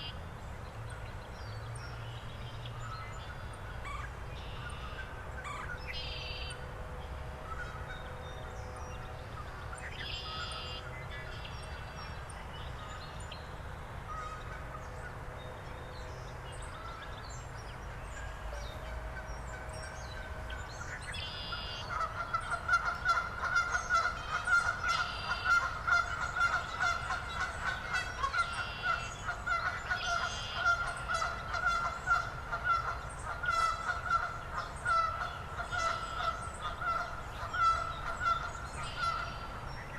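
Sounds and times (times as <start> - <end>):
birds calling: 0.0 - 39.9
low background rumble: 0.0 - 39.9
geese honking: 2.8 - 13.2, 14.0 - 39.9.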